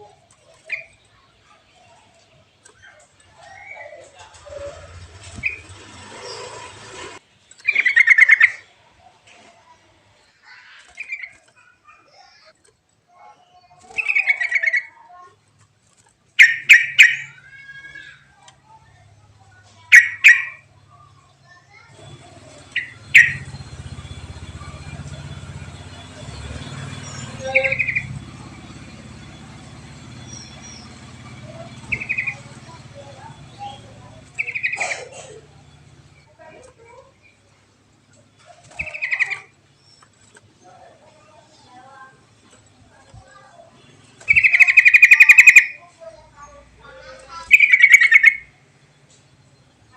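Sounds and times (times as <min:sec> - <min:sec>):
bird rapid chattering: 0:00.0 - 0:08.8, 0:10.5 - 0:12.7, 0:13.5 - 0:49.9.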